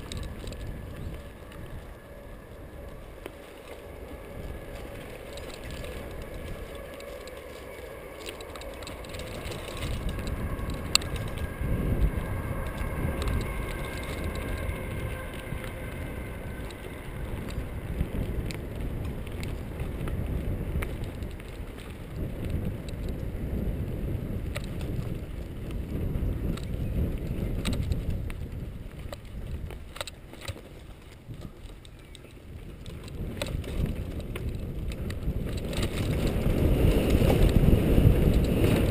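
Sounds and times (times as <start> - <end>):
bike clicks and knocks: 0.0 - 38.9
bike tyres rumbling on dirt: 0.0 - 38.9
wind buffeting microphone: 0.0 - 38.9.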